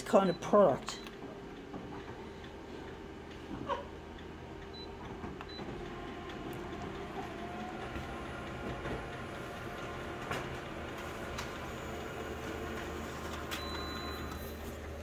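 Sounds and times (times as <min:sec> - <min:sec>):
copier mechanical whirr: 0:00.0 - 0:15.0.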